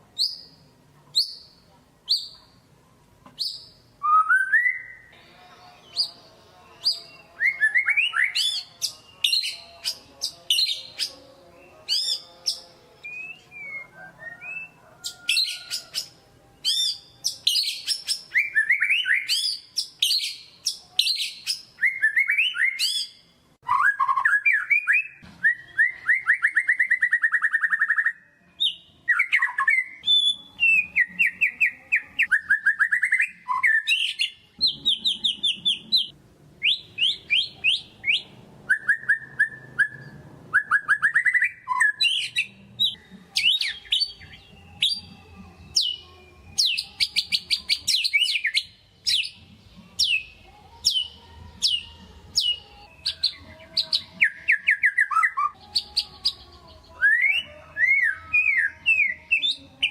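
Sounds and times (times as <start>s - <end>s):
shama bird singing: 0.1s - 2.6s, 3.3s - 59.9s.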